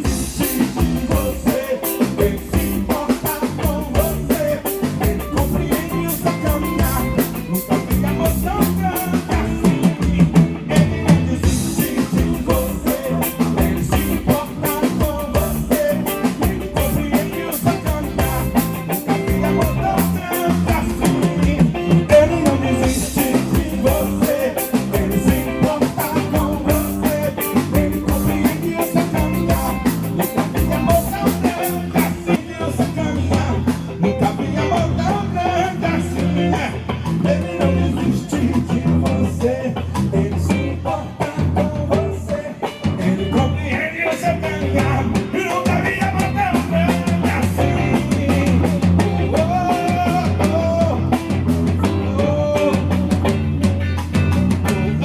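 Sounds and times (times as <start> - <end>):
person singing: 0.0 - 53.8
bass guitar: 0.0 - 55.0
drum kit: 0.0 - 55.0
electric guitar: 0.0 - 55.0.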